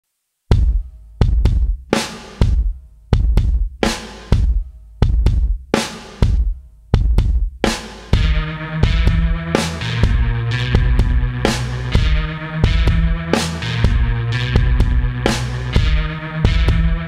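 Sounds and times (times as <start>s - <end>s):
heavy drum beat: 0.5s - 17.0s
steady bass line: 0.5s - 17.0s.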